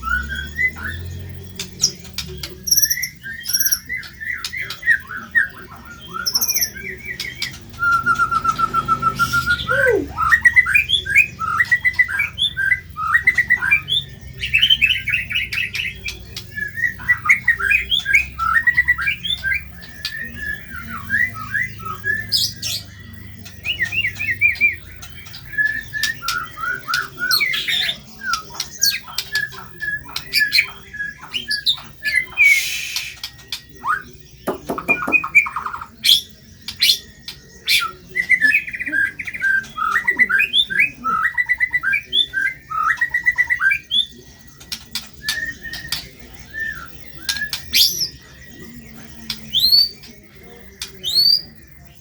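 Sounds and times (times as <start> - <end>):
bird singing chattering trills: 0.0 - 52.0.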